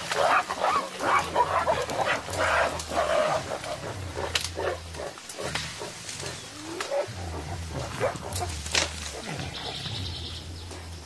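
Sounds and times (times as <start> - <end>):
gorillas low rumbles: 0.0 - 11.0.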